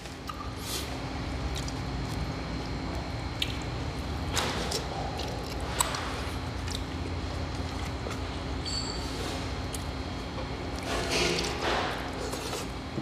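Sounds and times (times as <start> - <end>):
wet chewing: 0.0 - 8.6, 9.6 - 12.9
steady low hum: 0.0 - 13.0.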